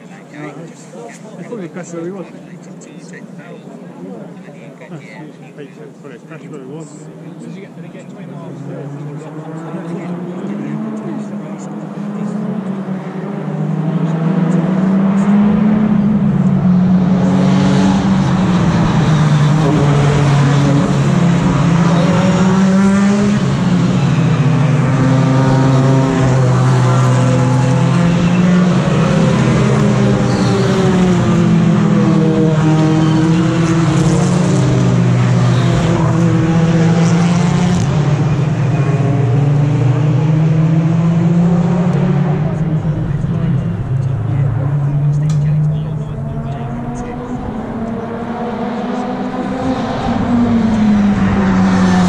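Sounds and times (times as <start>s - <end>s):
racing cars passing: 0.0s - 52.0s.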